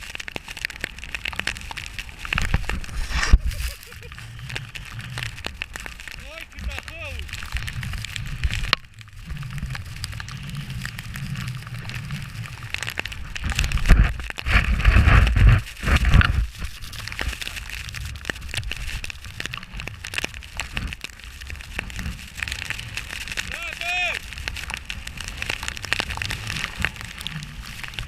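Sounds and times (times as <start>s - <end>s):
snowboard scraping over snow: 1.6s - 18.8s, 20.2s - 28.0s.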